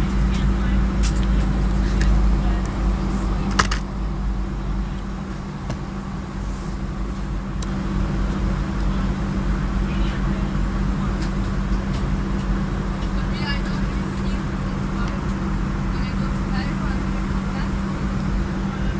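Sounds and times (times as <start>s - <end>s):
airliner cabin drone: 0.0s - 18.9s.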